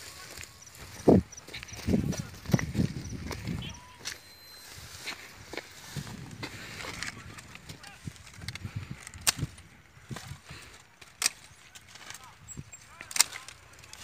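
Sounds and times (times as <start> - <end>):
pruning shears snipping: 0.1 - 14.0.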